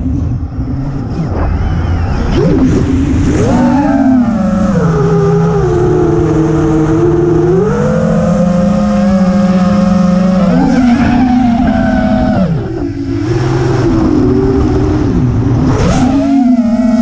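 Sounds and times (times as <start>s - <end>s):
quadcopter motors buzzing whine: 0.0s - 17.0s.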